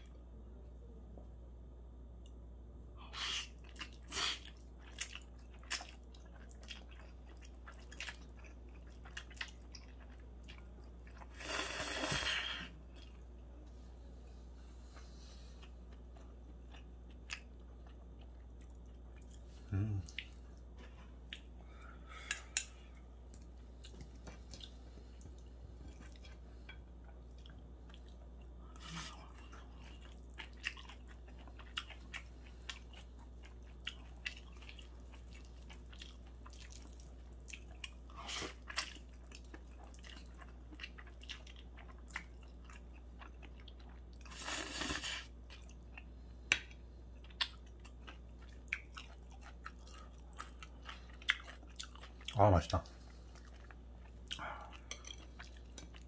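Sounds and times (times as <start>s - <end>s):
steady low hum: 0.0s - 56.0s
close chewing of food: 3.1s - 13.5s, 14.8s - 21.6s, 22.3s - 56.0s.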